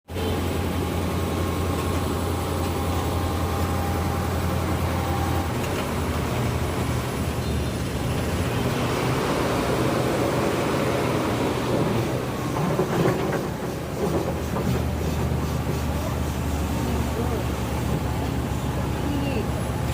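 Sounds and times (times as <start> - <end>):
diesel engine running: 0.1 - 19.9.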